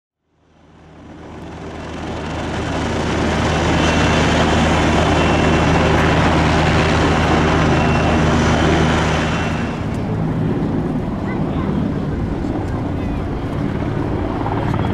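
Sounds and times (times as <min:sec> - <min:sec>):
helicopter rotor throb: 0:00.3 - 0:14.9.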